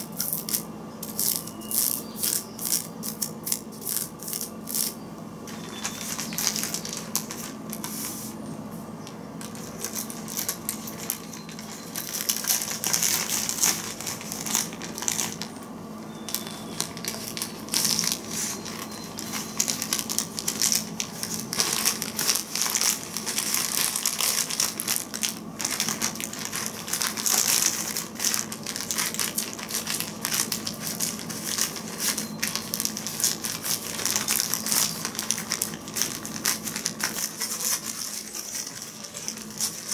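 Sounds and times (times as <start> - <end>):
plastic bag crinkling: 0.1 - 8.4, 9.0 - 39.9.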